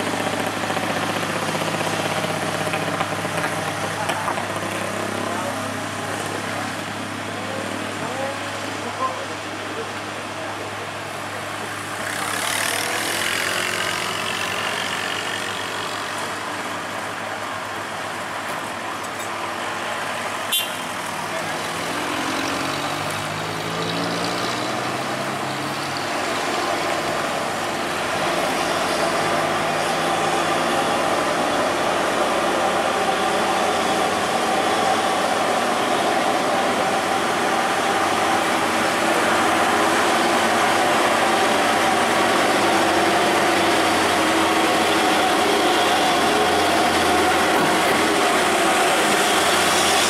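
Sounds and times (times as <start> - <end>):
heavy diesel truck engines under load: 0.0 - 50.0.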